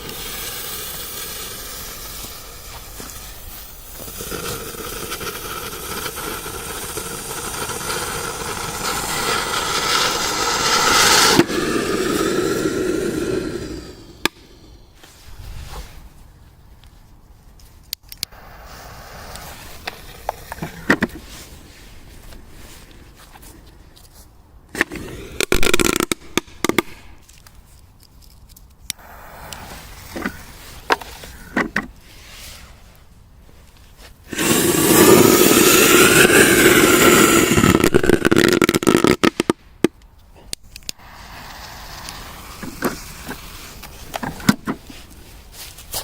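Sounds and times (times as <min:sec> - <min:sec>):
fireworks popping and cracking: 0:00.0 - 0:15.8, 0:18.1 - 0:23.2, 0:24.7 - 0:27.5, 0:28.9 - 0:33.0, 0:33.6 - 0:46.0
firework hissing spray: 0:00.0 - 0:16.1, 0:18.3 - 0:22.6, 0:24.7 - 0:27.2, 0:28.9 - 0:33.2, 0:34.1 - 0:46.0.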